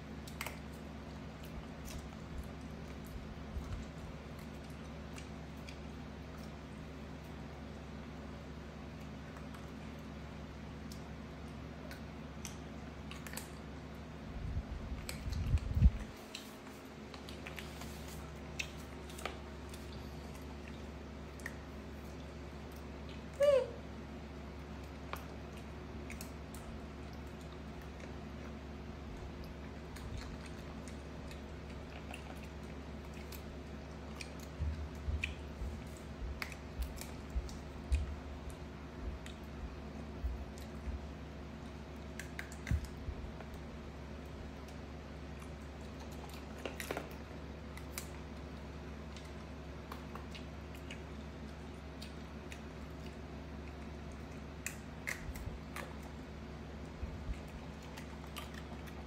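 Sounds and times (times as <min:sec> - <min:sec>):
chewing and handling fruit: 0:00.0 - 0:59.0
steady low hum: 0:00.0 - 0:59.0.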